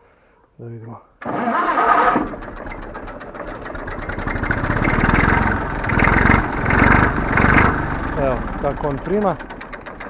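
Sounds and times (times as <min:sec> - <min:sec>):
tractor diesel engine revving: 0:01.2 - 0:10.0.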